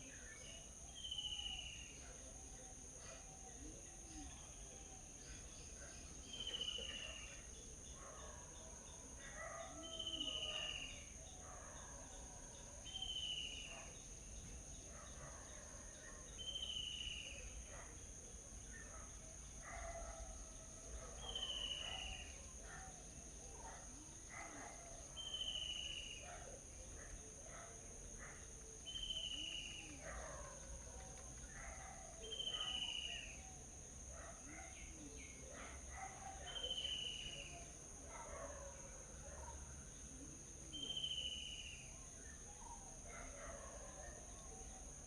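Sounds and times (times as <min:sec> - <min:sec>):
faint bird chirps: 0:00.0 - 0:20.3, 0:20.9 - 0:38.6, 0:39.2 - 0:44.4.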